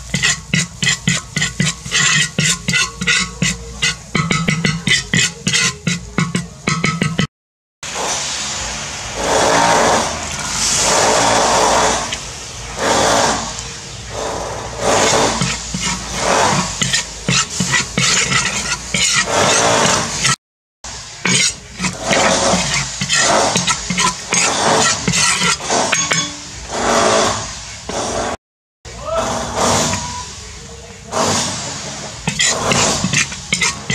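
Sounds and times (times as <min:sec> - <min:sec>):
metal spatula scraping wok: 0:00.0 - 0:07.3, 0:09.2 - 0:28.4, 0:29.5 - 0:33.9
oil sizzling: 0:00.0 - 0:07.3, 0:07.9 - 0:27.8, 0:31.4 - 0:33.9.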